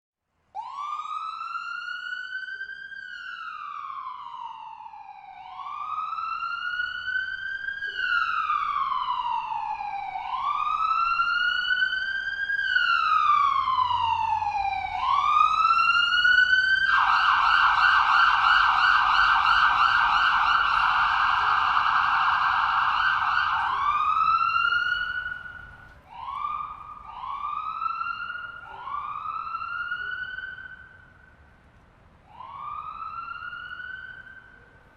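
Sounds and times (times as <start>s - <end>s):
ambulance siren wailing: 0.6s - 31.4s, 32.3s - 34.9s.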